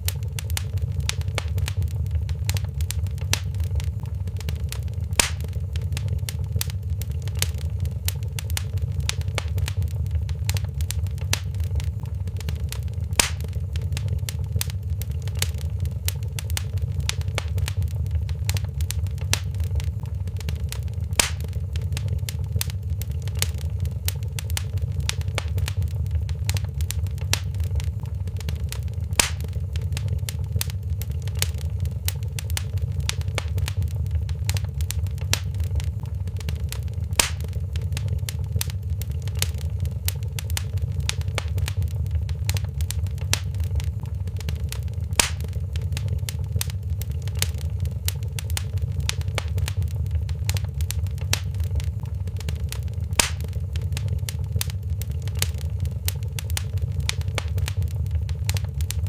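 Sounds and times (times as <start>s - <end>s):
fire popping: 0.0s - 59.0s
wood fire crackling: 0.0s - 59.0s.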